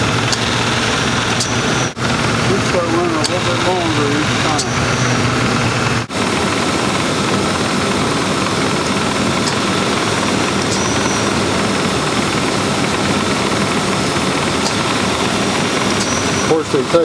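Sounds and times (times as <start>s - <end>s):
air conditioning compressor running: 0.0s - 17.0s
car engine idling: 0.0s - 17.0s.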